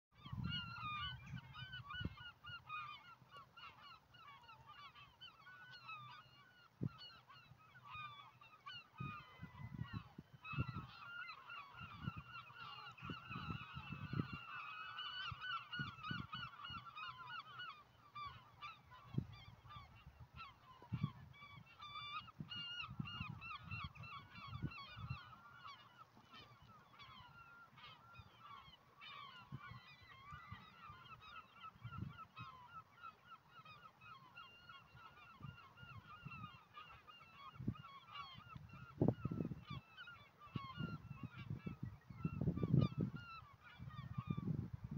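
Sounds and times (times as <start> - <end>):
flock of birds calling: 0.2 - 44.7.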